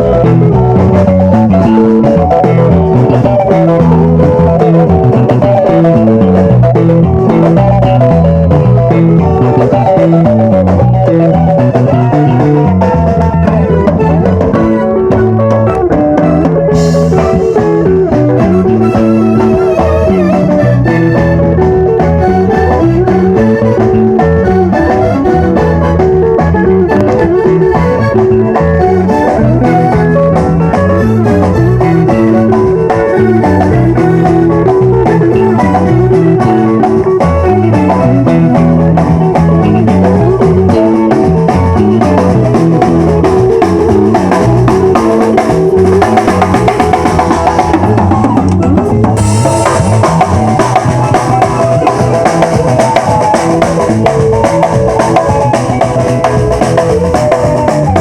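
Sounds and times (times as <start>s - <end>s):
band playing loud music: 0.0s - 58.0s.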